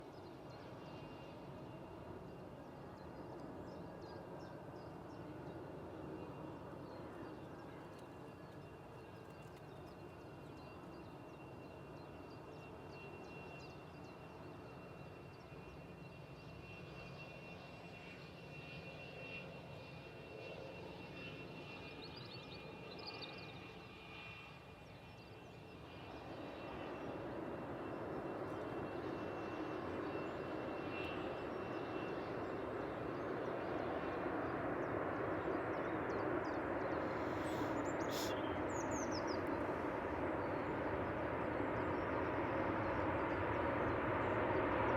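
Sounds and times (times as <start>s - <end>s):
distant jet rumble with whine: 0.0s - 44.9s.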